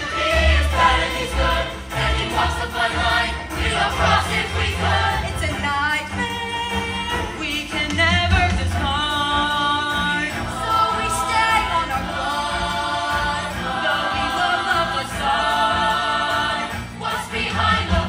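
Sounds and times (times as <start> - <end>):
ensemble singing with vibrato: 0.0 - 18.0
instrumental backing music: 0.0 - 18.0.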